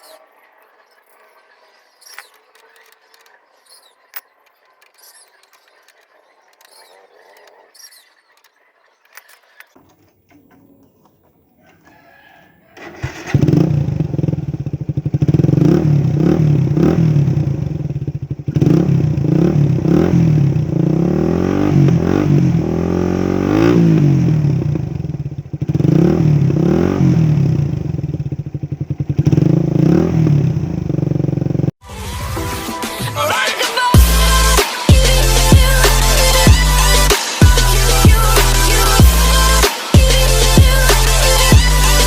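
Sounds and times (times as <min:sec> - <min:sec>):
motorcycle engine revving: 0:00.0 - 0:09.8, 0:12.7 - 0:31.8, 0:34.0 - 0:42.0.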